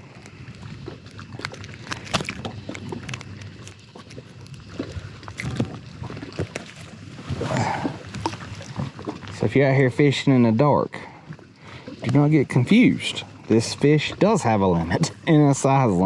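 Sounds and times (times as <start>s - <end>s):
clicks and knocks in a boat: 0.0s - 15.3s
faint steady background noise: 0.0s - 16.0s.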